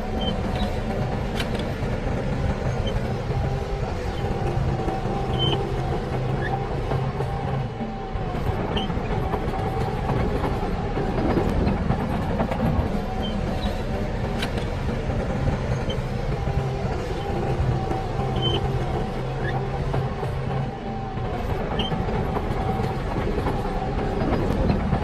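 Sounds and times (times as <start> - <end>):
diesel engine under load: 0.0 - 25.0.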